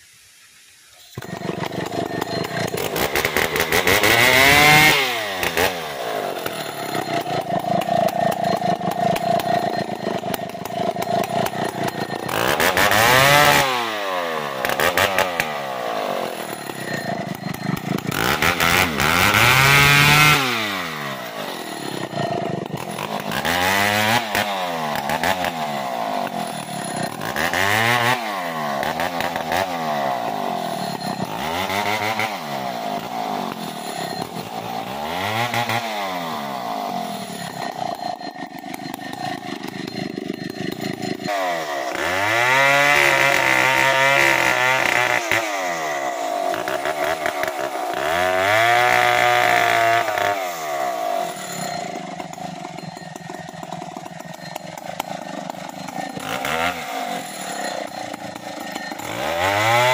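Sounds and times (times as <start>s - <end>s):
chainsaw revving and idling: 1.1s - 59.9s.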